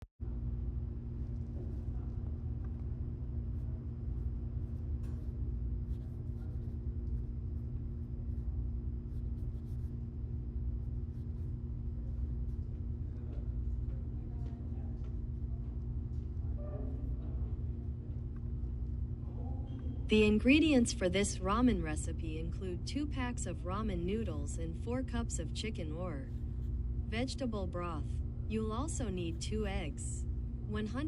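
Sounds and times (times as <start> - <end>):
low hum and rumble: 0.0 - 31.0.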